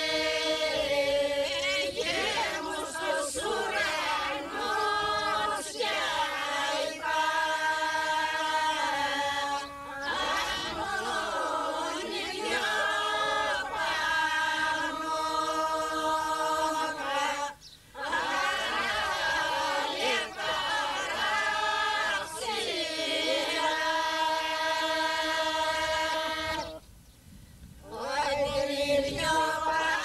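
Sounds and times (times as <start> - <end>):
women singing unaccompanied: 0.0 - 26.8, 27.8 - 30.0.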